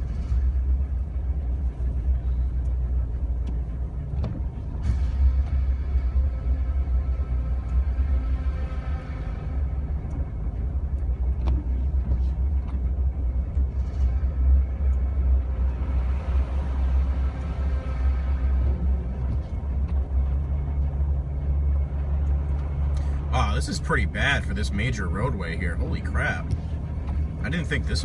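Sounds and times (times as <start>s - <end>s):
engine and tyre rumble: 0.0s - 28.0s.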